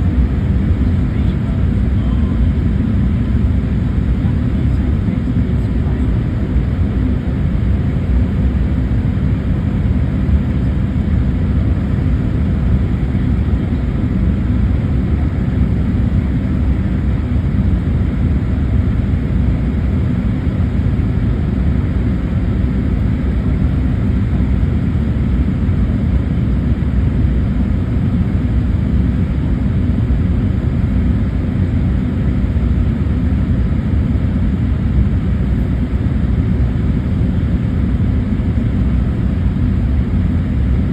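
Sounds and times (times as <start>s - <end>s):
airliner cabin engine noise: 0.0s - 40.9s.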